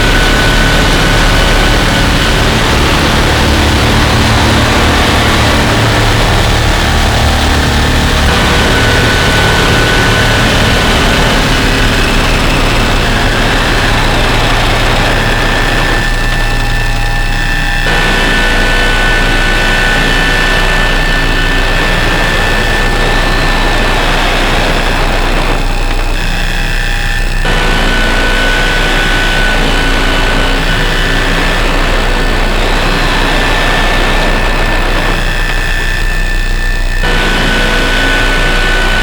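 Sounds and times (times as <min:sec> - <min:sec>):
harsh distorted noise drone: 0:00.0 - 0:39.0
high whistling tones: 0:00.1 - 0:39.0.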